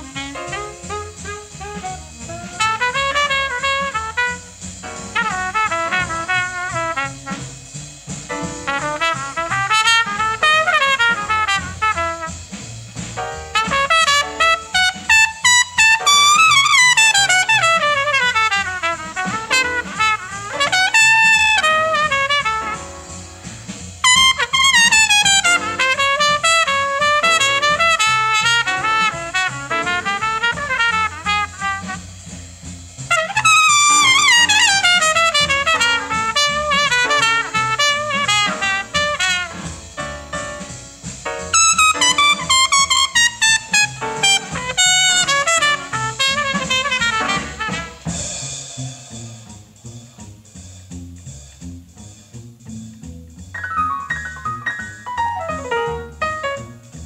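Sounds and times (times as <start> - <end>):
trumpet playing rapid runs: 0.0 - 7.6, 8.3 - 12.5, 13.5 - 32.4, 33.1 - 40.8, 41.4 - 48.2, 53.6 - 57.0
jazz rhythm section: 0.0 - 57.0.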